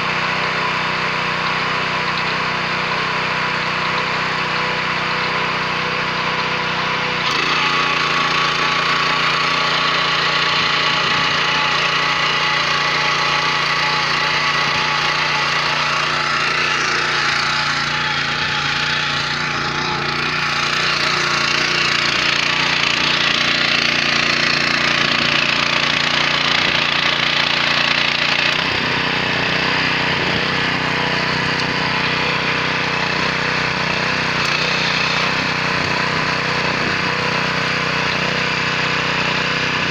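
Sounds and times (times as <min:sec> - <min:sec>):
tiller tines churning crop: 0:00.0 - 0:39.9
tractor engine running under load: 0:00.0 - 0:39.9.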